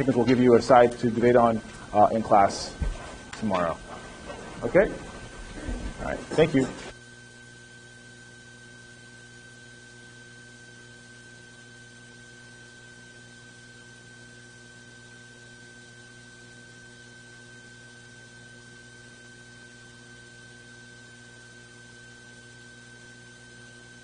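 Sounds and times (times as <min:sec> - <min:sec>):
electrical hum: 0:00.0 - 0:24.0
thin high whine: 0:00.0 - 0:24.0.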